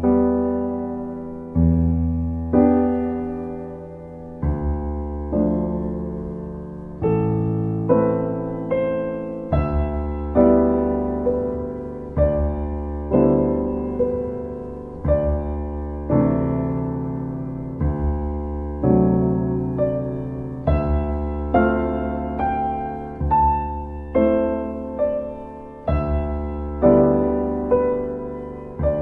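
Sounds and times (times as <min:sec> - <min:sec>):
slow solo piano: 0:00.0 - 0:29.0.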